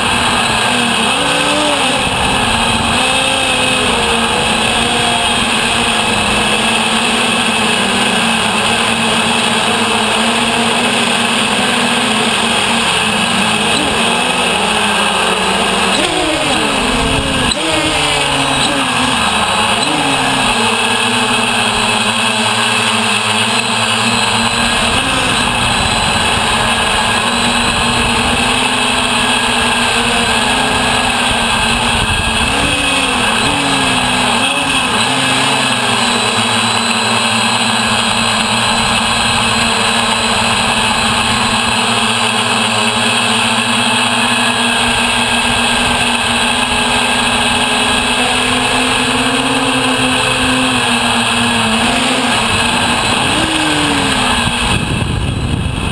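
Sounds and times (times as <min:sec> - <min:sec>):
drone motors and propellers: 0:00.0 - 0:55.9.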